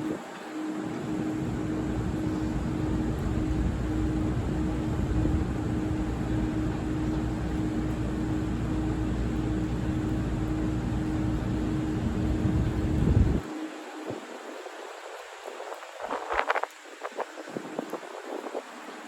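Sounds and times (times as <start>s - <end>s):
train rumbling and humming: 0.0s - 15.4s.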